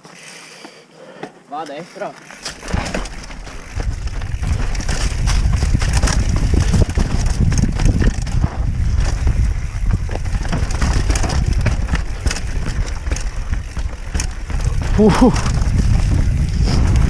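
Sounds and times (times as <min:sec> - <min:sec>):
bike rattling and knocking: 0:02.0 - 0:17.0
tyres crunching over loose stones: 0:02.0 - 0:17.0
wind buffeting microphone: 0:02.6 - 0:17.0.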